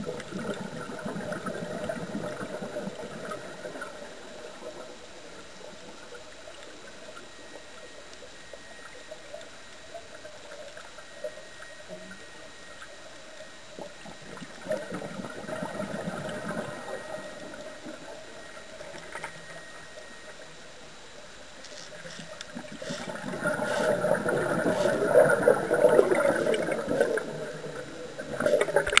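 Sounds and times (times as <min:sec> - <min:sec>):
underwater bubbles gurgling: 0:00.0 - 0:29.0.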